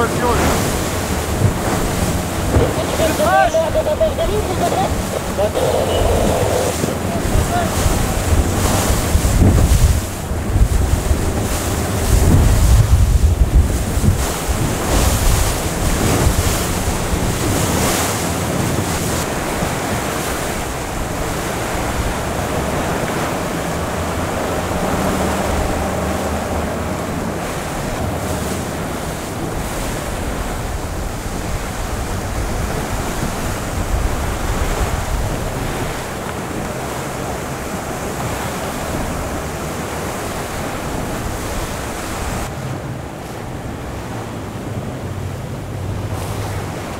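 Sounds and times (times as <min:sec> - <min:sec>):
sea water rushing: 0:00.0 - 0:46.9
wind buffeting microphone: 0:00.0 - 0:46.9.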